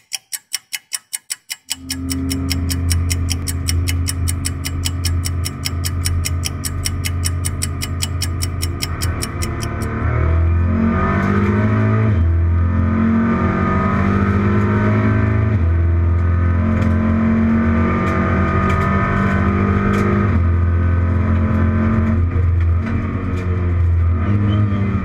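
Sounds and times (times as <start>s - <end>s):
race car engine accelerating: 1.9s - 25.0s.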